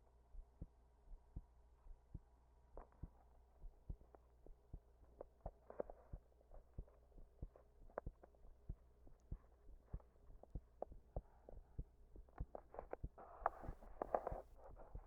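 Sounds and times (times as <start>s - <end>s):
low steady hum: 0.0s - 15.0s
heartbeat thumps: 0.4s - 15.0s.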